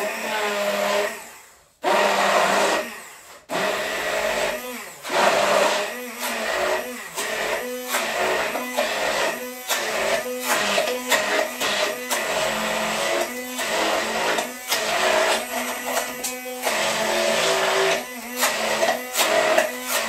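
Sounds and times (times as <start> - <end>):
countertop blender running: 0.0 - 20.0.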